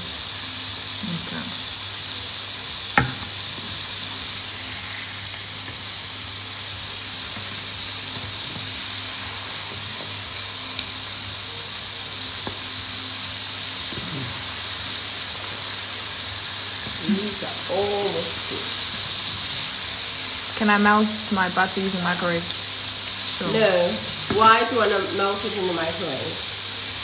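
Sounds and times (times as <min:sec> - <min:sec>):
butter sizzling in a pan: 0:00.0 - 0:27.0.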